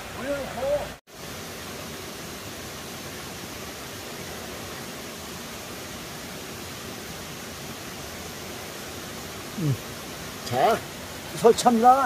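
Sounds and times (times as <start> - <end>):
stream water flowing over rocks: 0.0 - 12.0.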